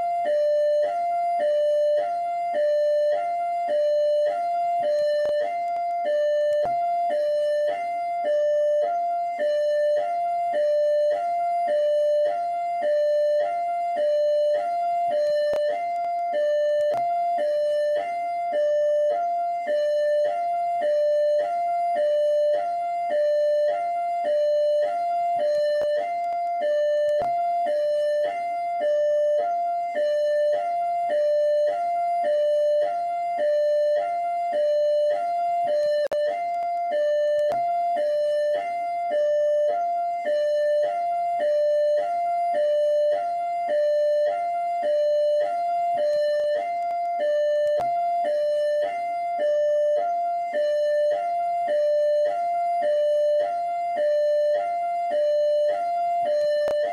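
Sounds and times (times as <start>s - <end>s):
hi-lo electronic siren: 0.0s - 56.9s.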